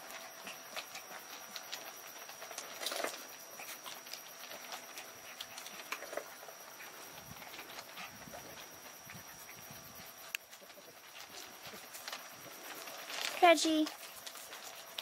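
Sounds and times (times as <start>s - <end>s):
puppy claws scuffling on stone: 0.0s - 15.0s.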